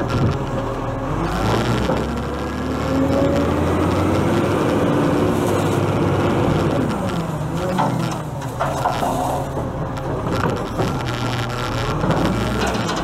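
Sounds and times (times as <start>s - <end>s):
garbage truck diesel engine accelerating: 0.0s - 13.0s.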